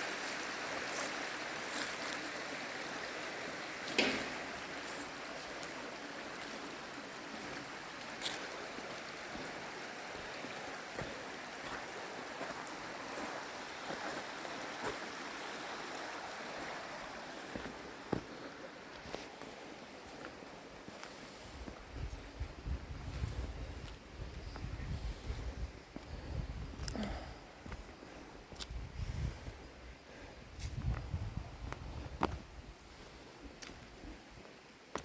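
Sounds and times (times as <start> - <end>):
creek water running: 0.0 - 35.0.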